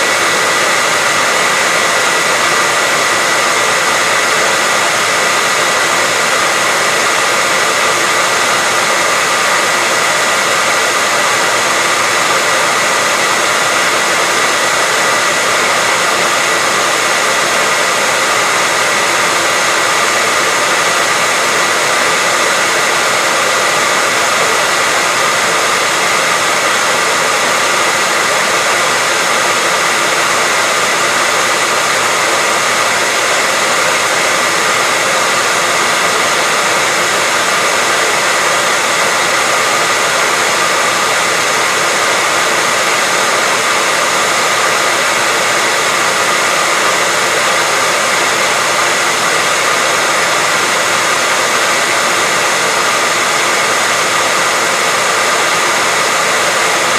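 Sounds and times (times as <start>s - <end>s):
hair dryer blowing: 0.0s - 56.9s.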